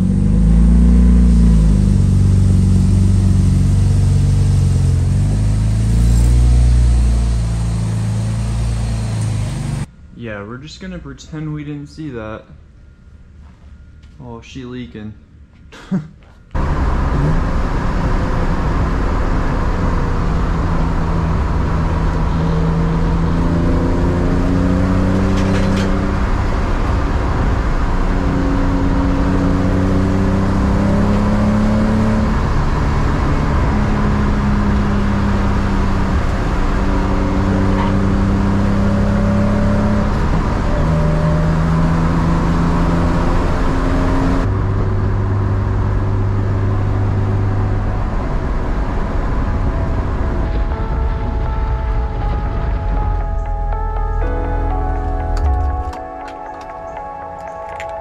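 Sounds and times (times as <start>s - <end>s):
car engine accelerating through gears: 0.0s - 9.9s, 16.5s - 58.0s.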